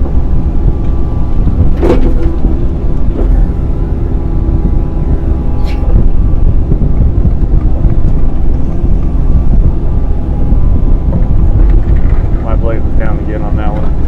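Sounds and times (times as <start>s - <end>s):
diesel engine running hard: 0.0s - 14.0s.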